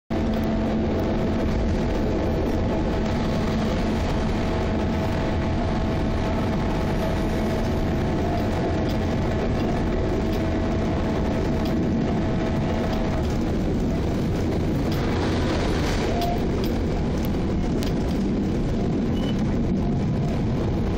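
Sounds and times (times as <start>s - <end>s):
diesel locomotive engine drone: 0.1s - 20.9s
wheel and rail noise: 0.1s - 20.9s.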